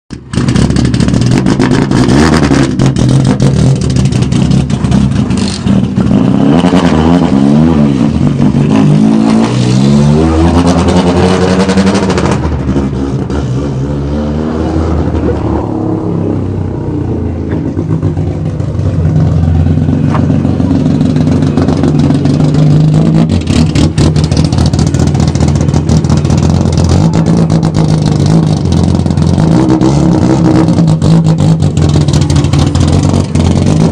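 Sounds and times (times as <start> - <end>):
car engine revving: 0.3 - 33.9.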